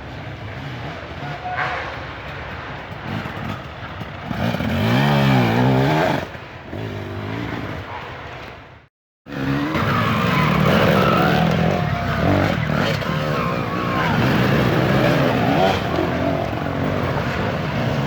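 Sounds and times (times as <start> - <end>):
dirt bike engines revving: 0.0 - 8.4, 9.3 - 18.0.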